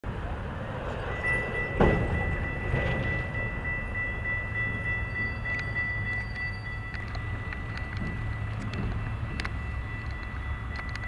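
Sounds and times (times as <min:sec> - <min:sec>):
railroad crossing bell ringing: 0:00.1 - 0:11.0.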